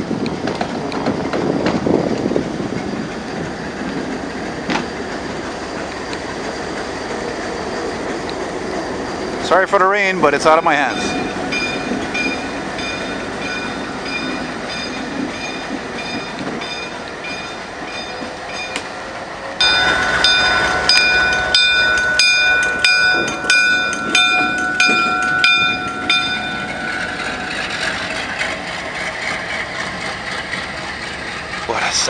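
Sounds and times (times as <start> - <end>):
diesel locomotive rumbling: 0.0 - 32.0
locomotive bell ringing: 0.9 - 32.0
steady tone: 3.2 - 30.8.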